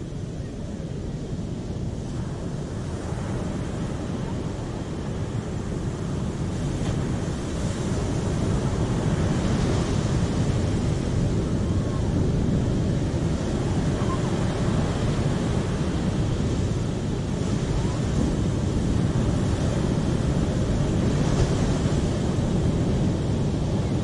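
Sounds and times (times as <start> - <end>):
ocean surf breaking: 1.3 - 24.0.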